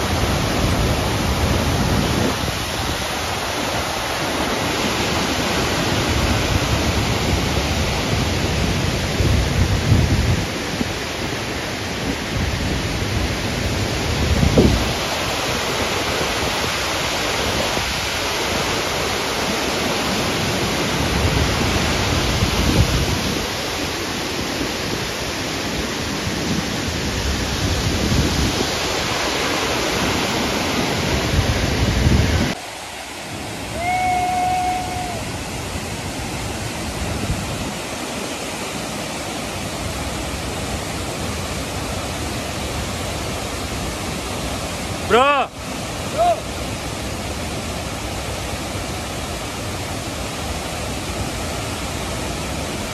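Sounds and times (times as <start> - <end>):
distant waterfall hiss: 0.0 - 52.9
stream rushing over boulders: 0.0 - 52.9.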